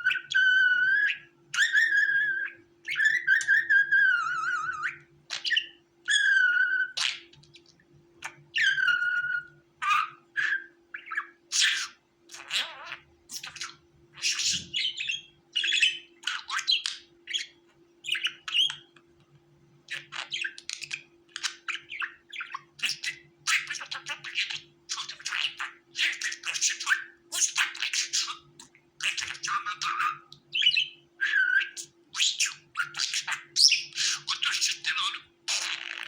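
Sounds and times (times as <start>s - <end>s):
budgerigars chirping: 0.0s - 18.9s, 19.9s - 36.0s
faint steady hum: 0.0s - 36.0s.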